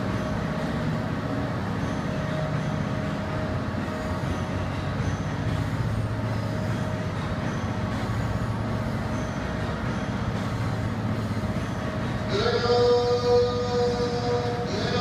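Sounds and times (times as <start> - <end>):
trains rumbling and humming: 0.0 - 15.0.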